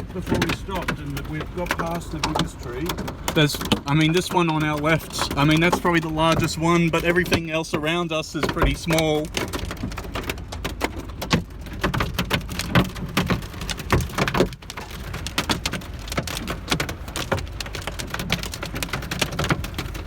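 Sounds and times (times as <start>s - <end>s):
hail and rain drumming on car roof: 0.0s - 20.0s.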